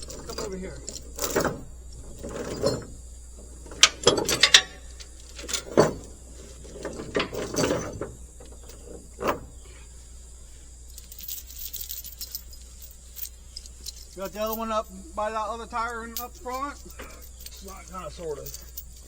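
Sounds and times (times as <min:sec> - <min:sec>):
metal chains clanking: 0:00.0 - 0:09.6, 0:10.9 - 0:19.0.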